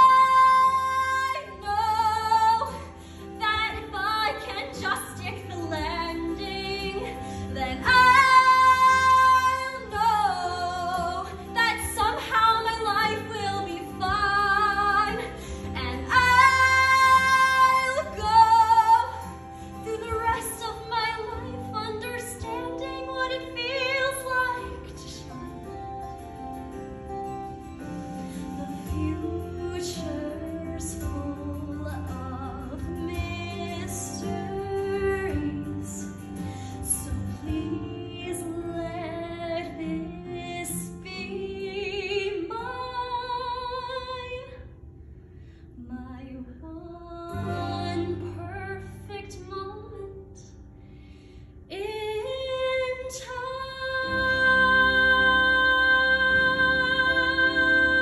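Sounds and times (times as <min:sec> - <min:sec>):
young woman singing: 0:00.0 - 0:25.5, 0:28.6 - 0:44.7, 0:45.8 - 0:50.6, 0:51.7 - 0:58.0.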